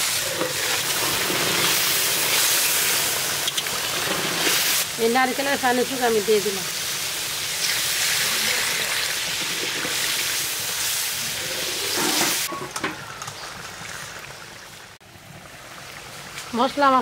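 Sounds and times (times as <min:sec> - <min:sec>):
spices sizzling in hot oil: 0:00.0 - 0:14.8.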